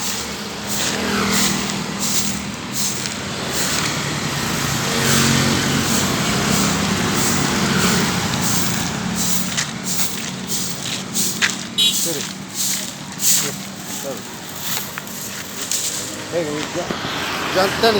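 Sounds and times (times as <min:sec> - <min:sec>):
road noise: 0:00.0 - 0:17.9
vehicle engine humming: 0:00.0 - 0:17.9.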